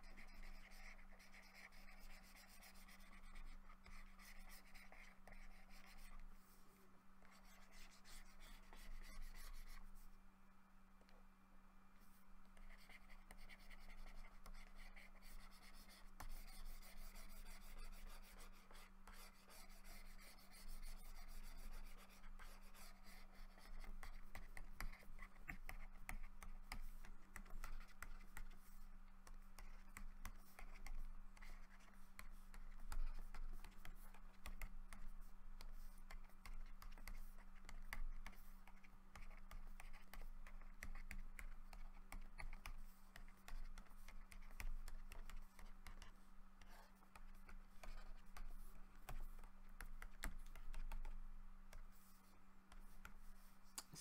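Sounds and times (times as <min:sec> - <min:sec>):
stylus scratching on graphics tablet: 0:00.0 - 0:06.3, 0:07.3 - 0:10.0, 0:12.6 - 0:54.0
steady low hum: 0:00.0 - 0:54.0.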